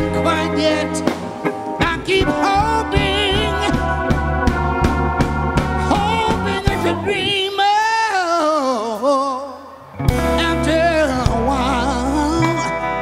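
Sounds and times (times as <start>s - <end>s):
lone melodic line with vibrato: 0.0s - 8.1s, 10.0s - 13.0s
soul band playing slow ballad: 0.0s - 13.0s.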